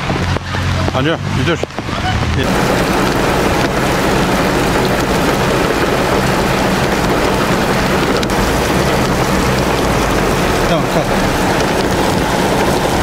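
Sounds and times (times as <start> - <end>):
heavy rain on water: 0.0 - 13.0
low engine hum: 0.0 - 13.0.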